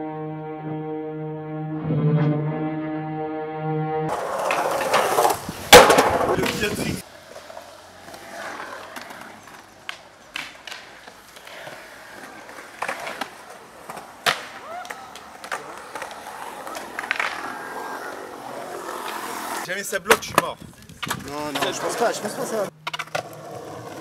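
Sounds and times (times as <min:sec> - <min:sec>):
skateboard clacks: 0:04.1 - 0:24.0
skateboard wheels rolling on concrete: 0:04.1 - 0:24.0.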